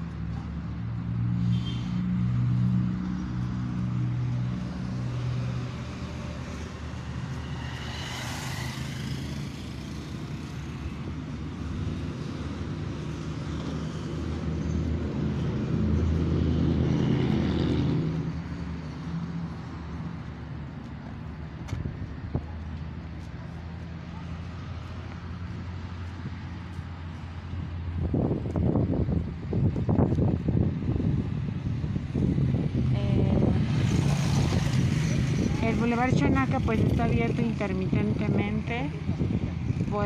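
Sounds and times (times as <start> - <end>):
vehicle engine humming: 0.0 - 40.0
vehicle passing rush: 0.0 - 40.0.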